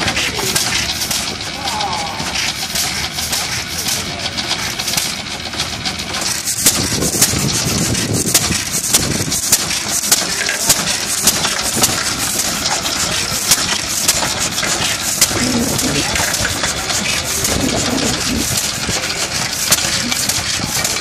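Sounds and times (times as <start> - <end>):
single-cylinder engine exhaust beats: 0.0 - 21.0.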